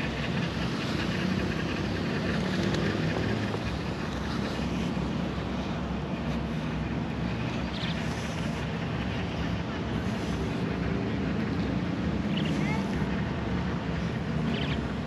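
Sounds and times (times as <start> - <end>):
faint low engine hum: 0.0 - 15.0
outdoor background noise: 0.0 - 15.0.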